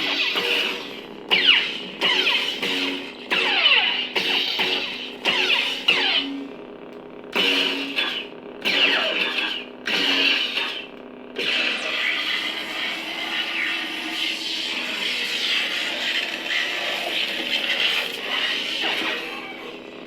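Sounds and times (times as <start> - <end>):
rough buzz: 0.0 - 19.9
lightsaber hum: 0.0 - 20.0.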